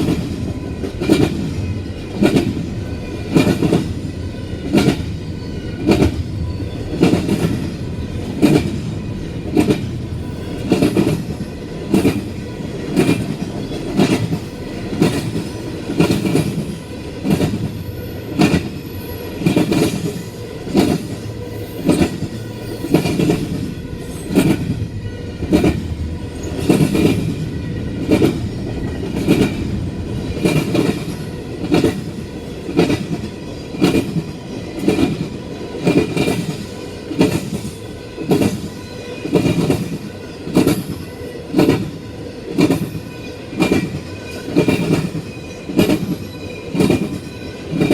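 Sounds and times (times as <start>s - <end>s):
freight train rumble: 0.0s - 47.9s
train wheels clacking over joints: 4.6s - 5.1s, 6.9s - 18.8s, 19.4s - 24.8s, 25.5s - 27.4s, 28.0s - 41.9s, 42.5s - 47.9s.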